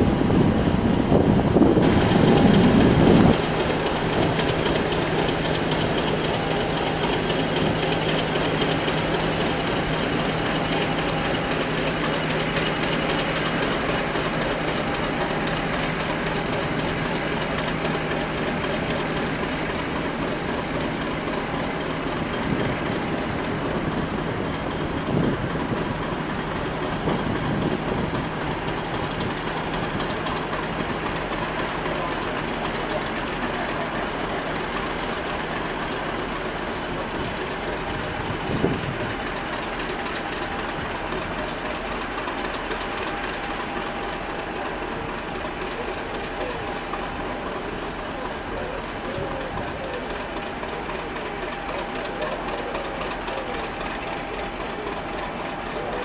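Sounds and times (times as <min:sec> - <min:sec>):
diesel locomotive engine rumble: 0:00.0 - 0:56.0
wheels clattering over rail joints: 0:00.0 - 0:56.0.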